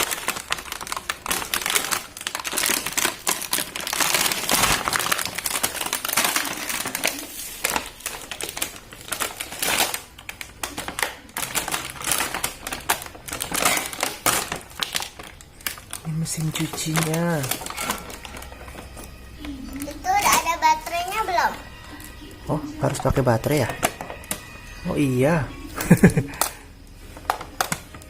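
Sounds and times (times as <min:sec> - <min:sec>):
plastic packaging crinkling: 0:00.0 - 0:28.0.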